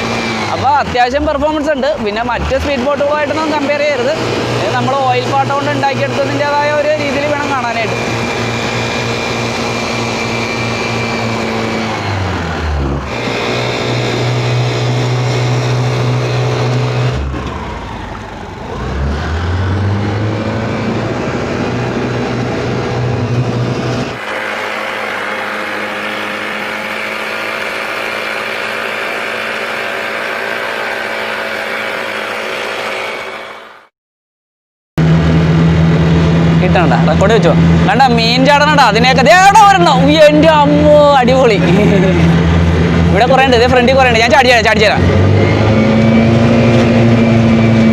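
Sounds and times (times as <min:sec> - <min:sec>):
scooter engine running: 0:00.0 - 0:33.9, 0:35.0 - 0:47.9.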